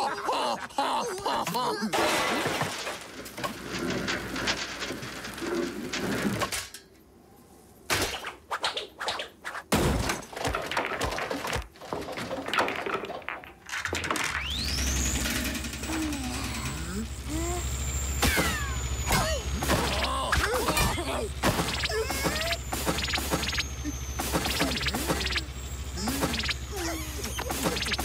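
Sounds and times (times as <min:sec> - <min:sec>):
cartoon crashes and clattering: 0:01.4 - 0:06.8, 0:07.9 - 0:16.0, 0:18.2 - 0:28.0.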